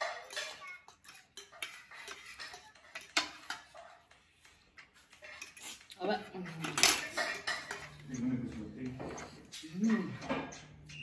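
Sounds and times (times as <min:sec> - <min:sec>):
utensils clinking against dishes: 0:00.0 - 0:11.0.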